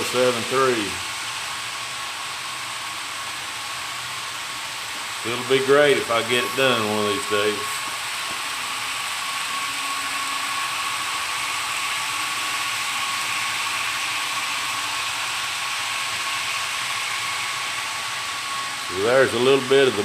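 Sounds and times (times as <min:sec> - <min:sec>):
model train motor whir: 0:00.0 - 0:20.0
thin constant whine: 0:00.0 - 0:20.0.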